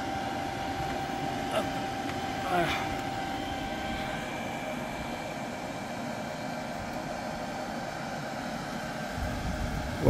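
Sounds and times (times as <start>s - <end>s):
steady whirring hum: 0.0s - 10.0s.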